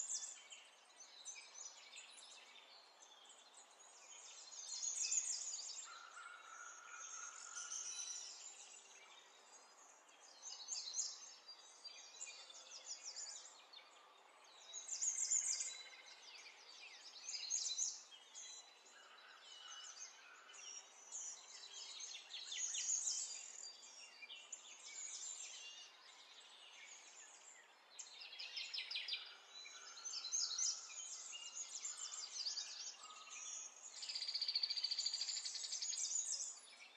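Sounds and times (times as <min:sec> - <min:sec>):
songbirds chirping and trilling: 0:00.0 - 0:36.9.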